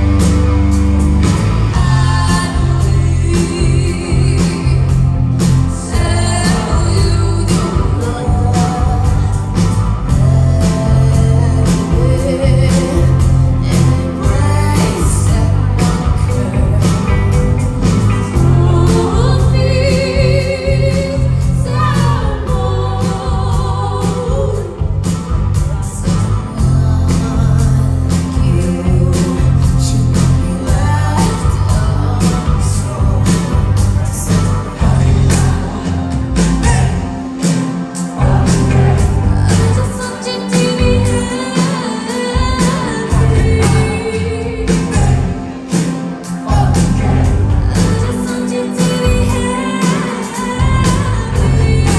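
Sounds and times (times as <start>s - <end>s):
live rock band: 0.0s - 51.9s
person singing: 0.0s - 51.9s.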